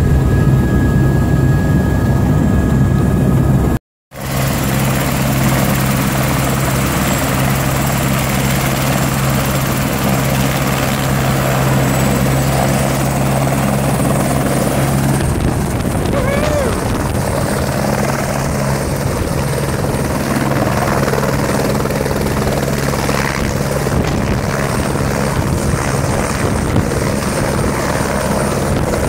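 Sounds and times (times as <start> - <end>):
high turbine whine: 0.0 - 28.2
helicopter rotor thrum: 0.0 - 29.0.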